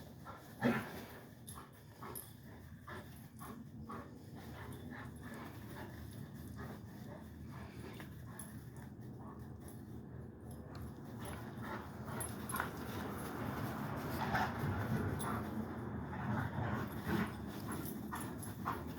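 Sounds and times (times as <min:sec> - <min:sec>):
dogs scuffling: 0:00.0 - 0:18.9.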